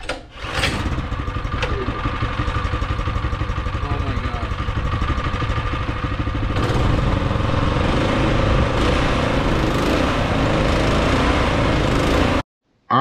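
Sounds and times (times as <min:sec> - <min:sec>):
snowblower engine running: 0:00.4 - 0:12.4.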